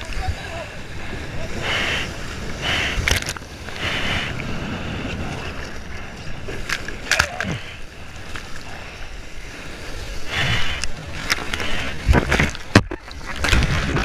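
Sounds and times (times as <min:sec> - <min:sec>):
hissing water rush: 0:00.0 - 0:14.0
seawater sloshing and splashing: 0:00.0 - 0:14.0.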